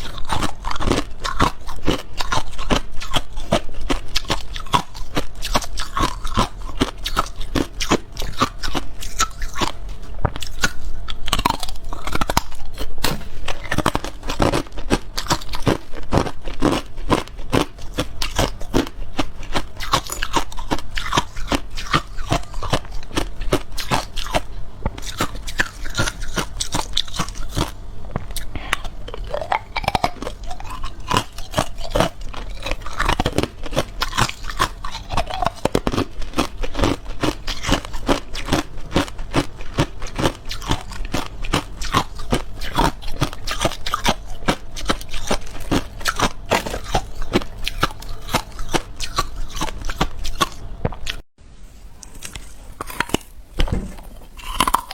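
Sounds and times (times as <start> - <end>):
ice being chewed: 0.0 - 51.2, 52.0 - 53.4, 54.0 - 54.9.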